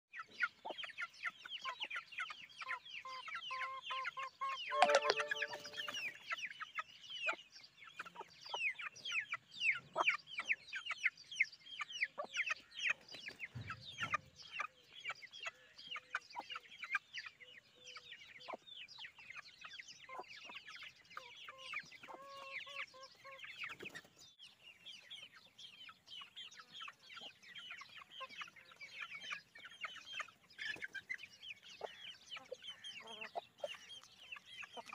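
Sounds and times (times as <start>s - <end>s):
chicks peeping: 0.1s - 34.9s
chicken clucking: 0.2s - 34.9s.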